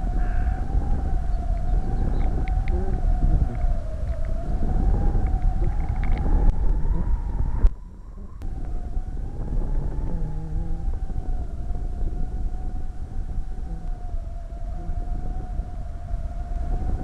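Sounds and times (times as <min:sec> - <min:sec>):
gale wind buffeting microphone: 0:00.0 - 0:17.0
high howling wind tone: 0:00.0 - 0:17.0.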